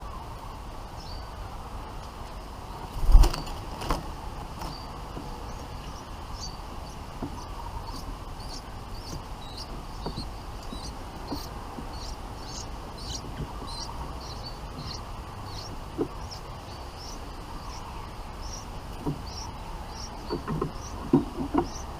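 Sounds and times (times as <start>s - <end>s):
steady background hum: 0.0s - 21.9s.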